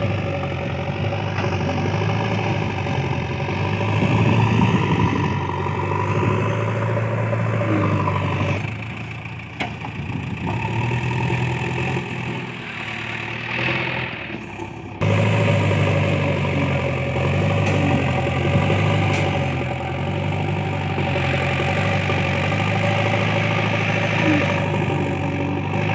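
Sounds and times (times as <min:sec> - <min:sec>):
diesel engine revving: 0:00.0 - 0:25.9.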